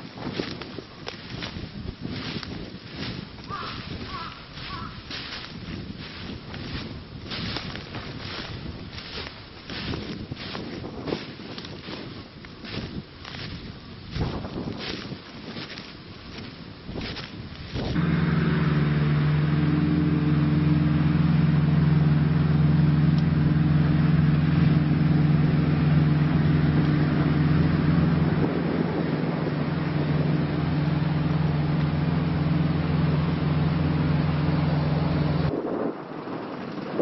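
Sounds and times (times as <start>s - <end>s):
machine droning: 0.0s - 11.0s, 15.6s - 37.0s.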